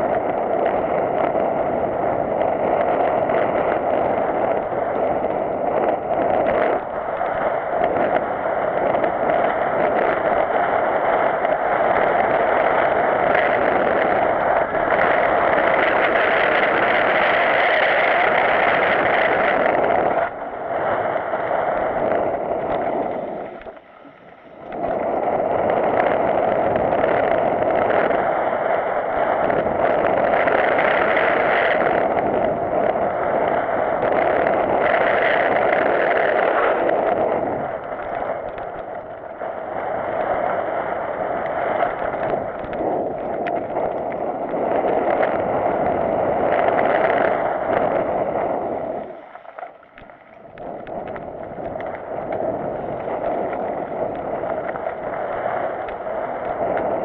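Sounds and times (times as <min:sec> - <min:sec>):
bike rattling: 0:00.0 - 0:57.0
bike tyres on gravel: 0:00.0 - 0:57.0
wind rushing: 0:00.0 - 0:57.0.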